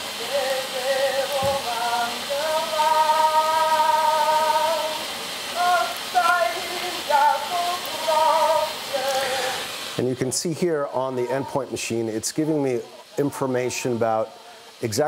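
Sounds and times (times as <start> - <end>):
person singing long notes: 0.0 - 9.7, 10.7 - 15.0
record surface hiss: 0.0 - 15.0.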